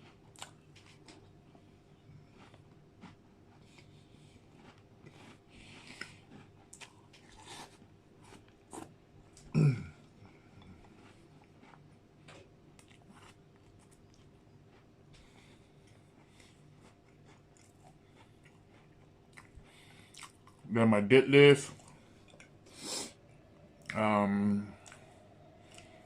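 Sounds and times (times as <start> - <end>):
chewing with crunches: 0.0 - 20.7, 21.6 - 26.0.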